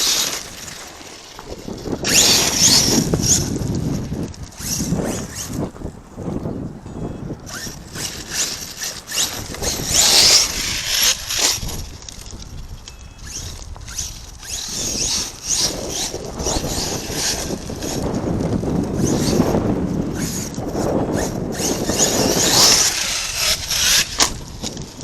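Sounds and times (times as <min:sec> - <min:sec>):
electric motor whining: 0:00.0 - 0:05.8, 0:07.4 - 0:25.0.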